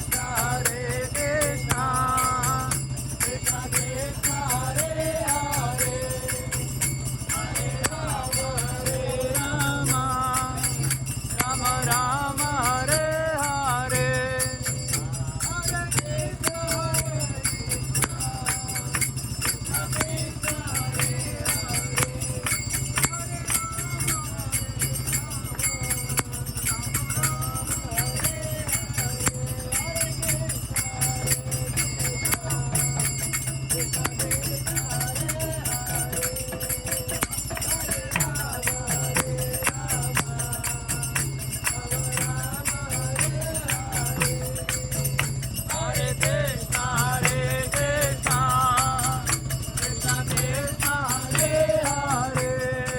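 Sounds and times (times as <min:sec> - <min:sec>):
jingling hand cymbals: 0:00.0 - 0:52.9.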